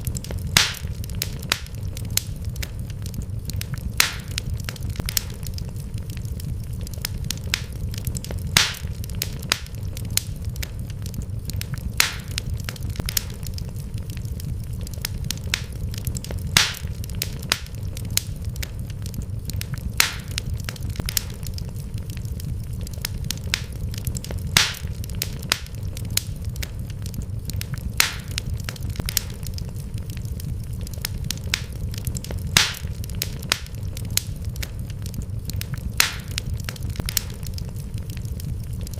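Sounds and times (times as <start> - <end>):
steady low rumble: 0.0 - 38.9
wood fire crackling and popping: 0.0 - 38.9.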